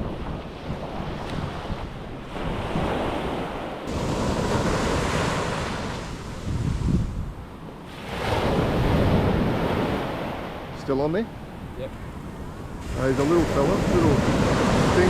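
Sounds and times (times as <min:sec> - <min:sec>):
ocean surf washing onto beach: 0:00.0 - 0:15.0
wind buffeting microphone: 0:00.0 - 0:15.0.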